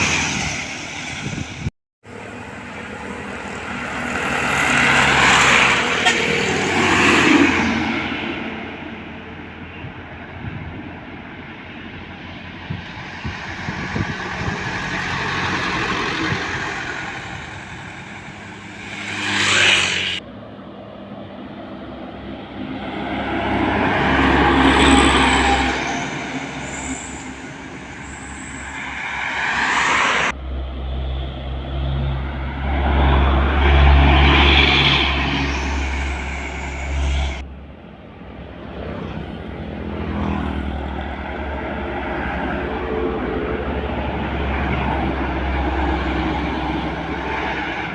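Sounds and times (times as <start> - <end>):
heavy diesel trucks passing: 0.0 - 47.9.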